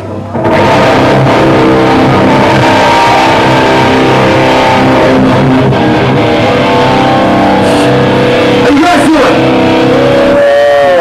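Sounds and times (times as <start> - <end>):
metal band playing live: 0.0 - 11.0.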